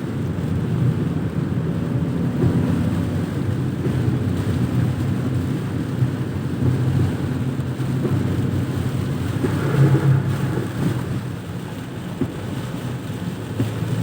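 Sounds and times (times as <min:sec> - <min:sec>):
tyres on wet road: 0:00.0 - 0:14.0
vehicle engine rumble: 0:00.0 - 0:14.0.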